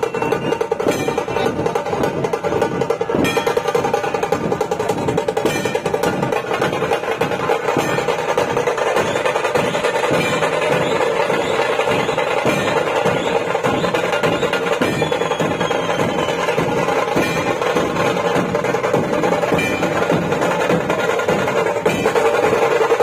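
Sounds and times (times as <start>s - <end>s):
drum troupe drumming: 0.0s - 23.0s.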